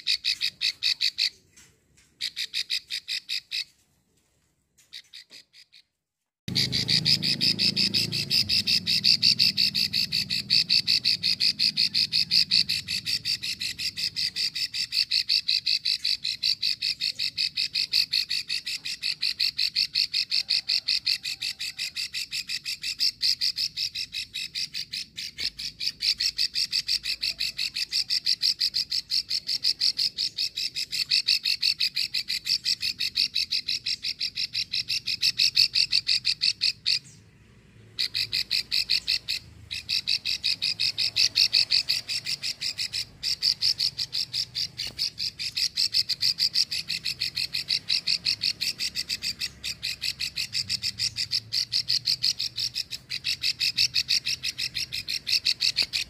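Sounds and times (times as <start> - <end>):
bird ticking call: 0.0 - 3.8, 6.5 - 56.0.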